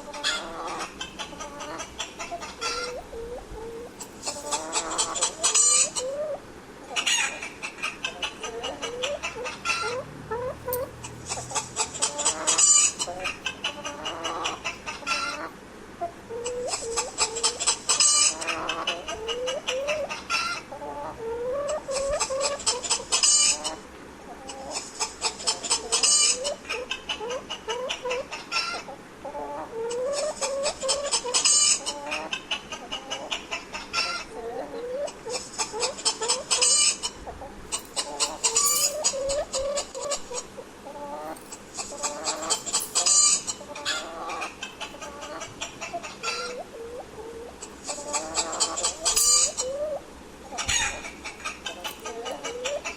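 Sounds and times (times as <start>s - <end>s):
hens clucking: 0.0s - 52.9s.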